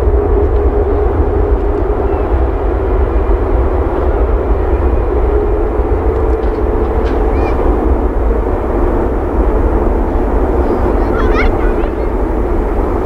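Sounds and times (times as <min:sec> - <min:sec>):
jet engines roaring on take-off: 0:00.0 - 0:13.0.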